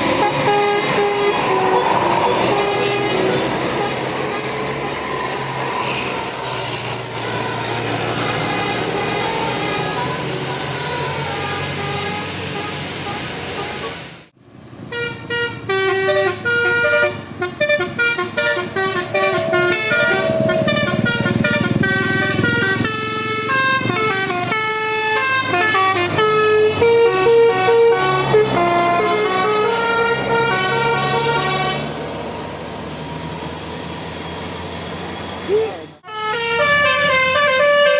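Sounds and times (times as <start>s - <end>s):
bus musical air horn melody: 0.0s - 14.0s, 14.9s - 32.0s, 36.0s - 37.9s.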